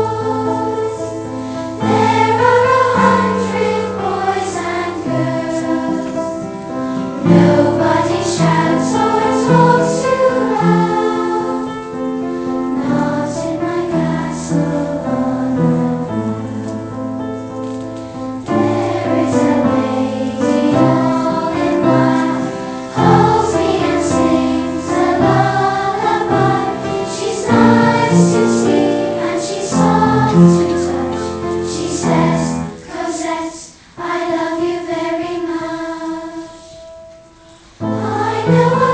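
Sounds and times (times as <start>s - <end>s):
choir singing in parts: 0.0s - 17.0s, 18.4s - 38.9s.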